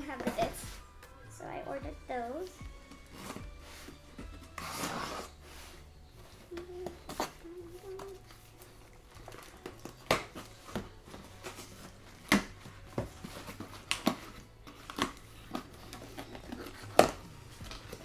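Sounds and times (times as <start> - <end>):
packages being opened by hand: 0.0 - 18.0.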